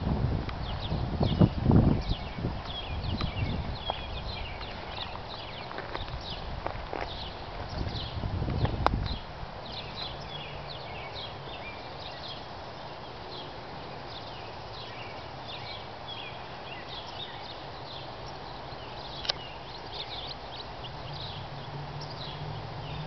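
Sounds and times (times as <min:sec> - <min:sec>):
small birds chirping: 0:00.6 - 0:23.0.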